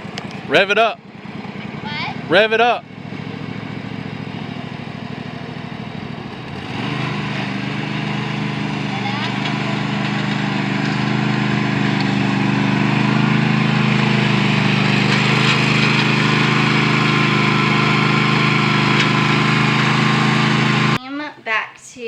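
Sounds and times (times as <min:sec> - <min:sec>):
riding lawn mower engine: 0:00.0 - 0:21.0.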